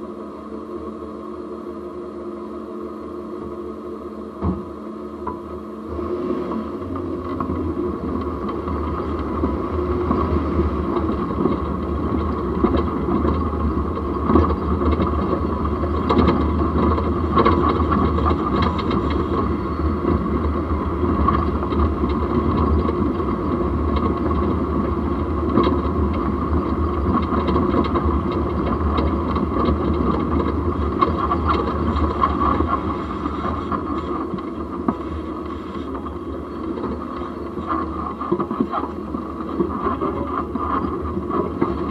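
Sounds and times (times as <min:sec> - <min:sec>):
drivetrain and tyre rumble: 0:00.0 - 0:41.9.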